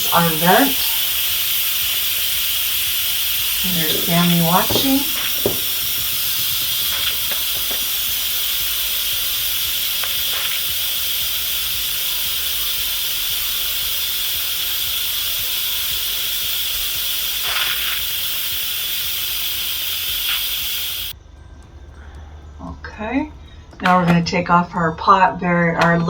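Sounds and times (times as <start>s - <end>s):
pressure cooker steam hissing: 0.0s - 21.2s.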